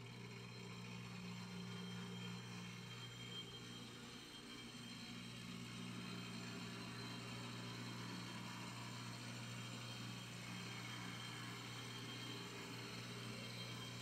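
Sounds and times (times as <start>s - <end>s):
model train motor hum: 0.0s - 14.0s.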